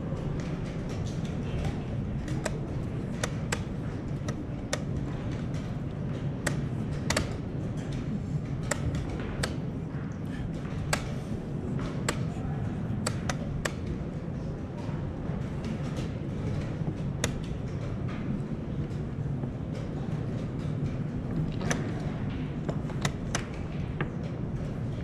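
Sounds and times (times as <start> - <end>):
chess pieces clicking on board: 0.0 - 14.1, 15.4 - 25.0.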